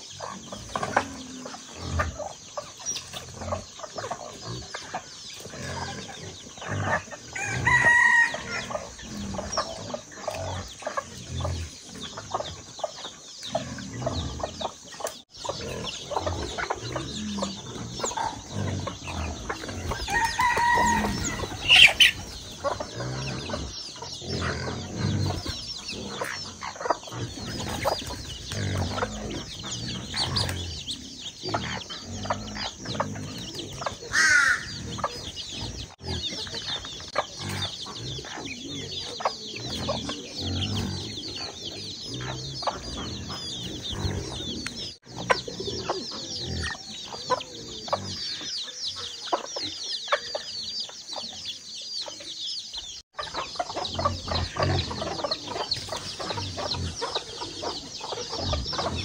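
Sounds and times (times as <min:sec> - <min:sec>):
chicks peeping: 0:00.0 - 0:59.0
hens clucking: 0:00.0 - 0:59.0.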